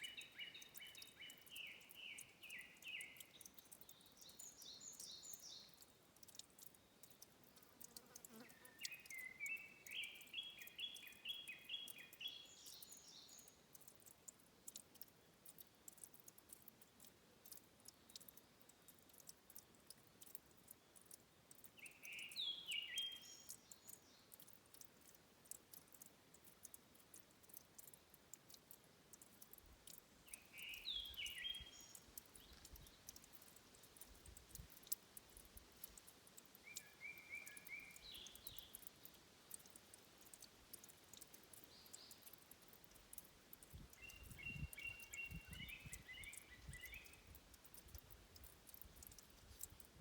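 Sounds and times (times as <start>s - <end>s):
light ticks: 0.0s - 50.0s
songbird chirping: 0.0s - 50.0s.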